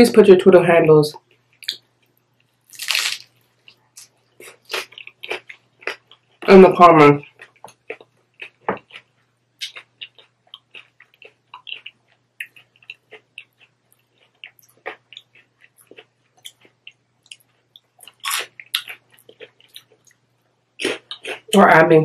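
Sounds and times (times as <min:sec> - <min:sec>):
crunchy taco chewing: 0:01.5 - 0:06.5, 0:07.1 - 0:21.6.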